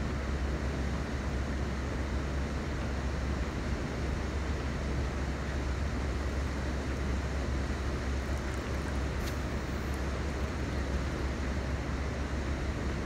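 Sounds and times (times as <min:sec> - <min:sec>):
constant hiss: 0:00.0 - 0:13.0.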